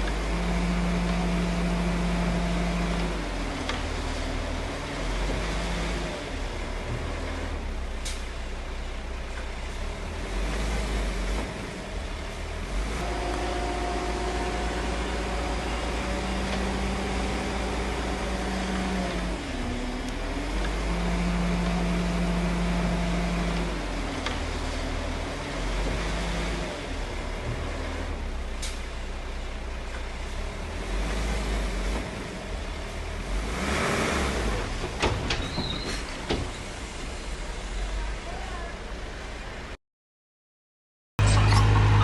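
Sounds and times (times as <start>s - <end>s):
heavy diesel engine rumbling: 0.0s - 39.8s, 41.2s - 42.0s.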